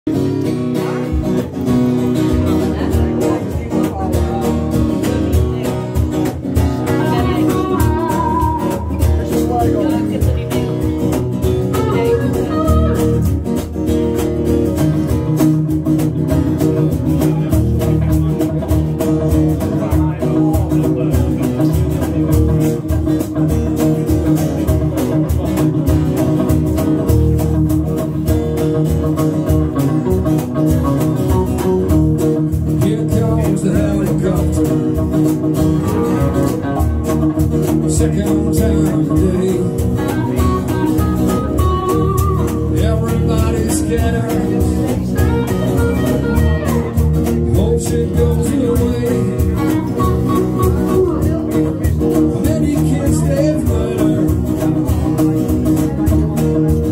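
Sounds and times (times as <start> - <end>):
electric bass: 0.0 - 56.9
electric guitar: 0.1 - 56.9
strummed acoustic guitar: 0.1 - 56.9.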